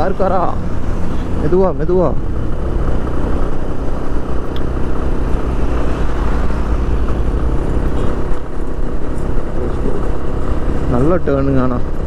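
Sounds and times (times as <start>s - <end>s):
motorcycle engine cruising: 0.0s - 12.0s
road noise: 0.0s - 12.0s
wind rumble on microphone: 0.0s - 12.0s.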